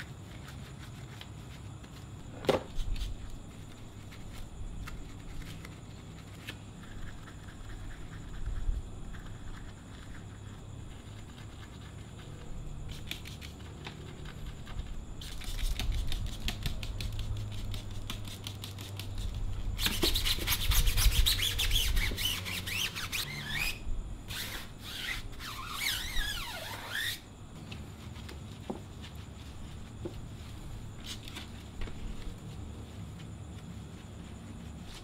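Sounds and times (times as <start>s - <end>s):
rubbing with squeaks: 2.7s - 35.0s.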